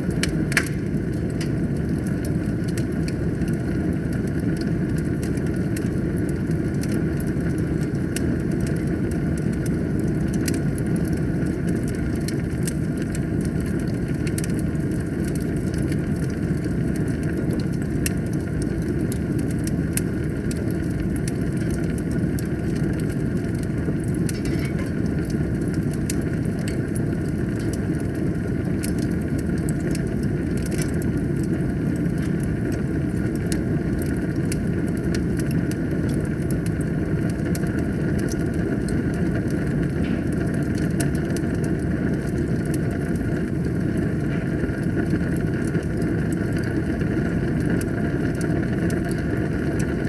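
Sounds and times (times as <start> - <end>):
fire rumbling: 0.0 - 50.0
logs crackling and popping: 0.0 - 50.0.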